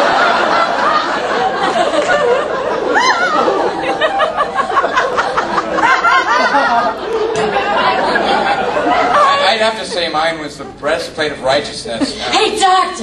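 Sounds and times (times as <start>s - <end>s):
audience laughing: 0.0s - 12.6s.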